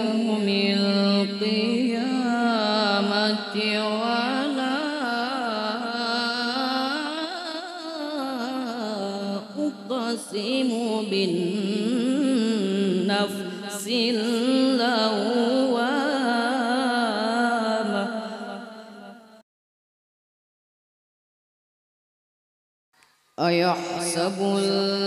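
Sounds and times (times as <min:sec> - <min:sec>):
boy chanting melodic recitation: 0:00.0 - 0:18.6, 0:23.4 - 0:25.0.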